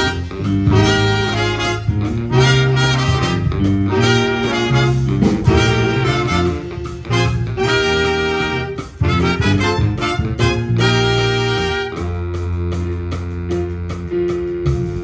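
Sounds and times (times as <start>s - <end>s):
jazz band playing: 0.0s - 15.0s.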